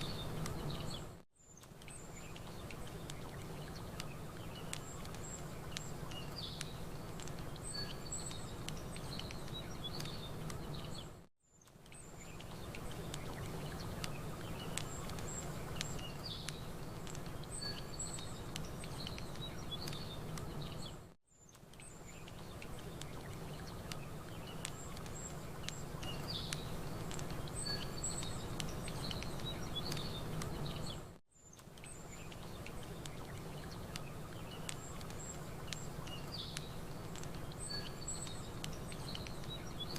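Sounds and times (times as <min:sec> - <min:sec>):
campfire crackling and popping: 0:00.0 - 0:20.9, 0:21.5 - 0:39.9
small birds chirping: 0:00.0 - 0:39.9.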